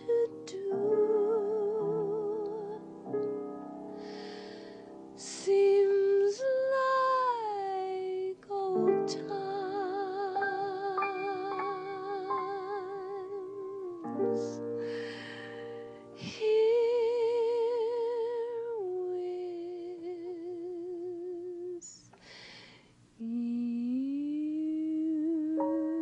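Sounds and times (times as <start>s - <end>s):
gentle music of held notes: 0.0s - 22.1s, 23.2s - 26.0s.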